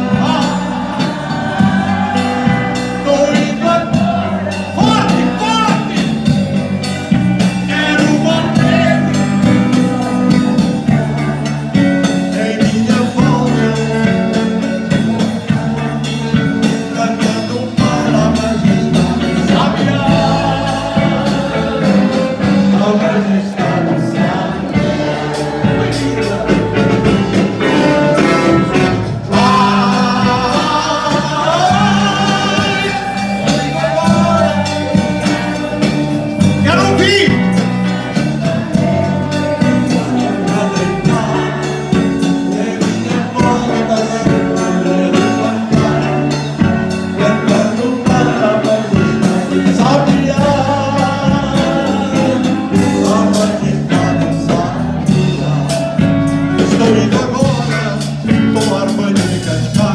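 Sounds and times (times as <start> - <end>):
man singing into microphone: 0.0 - 6.6, 7.5 - 28.6, 29.2 - 59.9
live rock band playing: 0.0 - 59.9.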